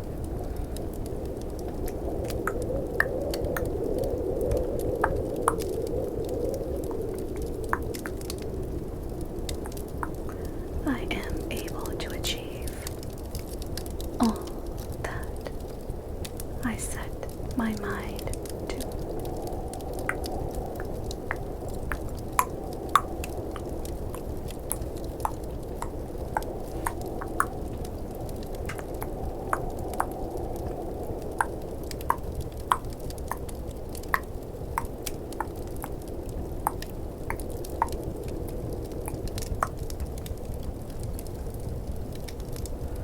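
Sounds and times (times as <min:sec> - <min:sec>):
fireplace ambience: 0:00.0 - 0:43.0
snowstorm rushing: 0:00.0 - 0:43.0.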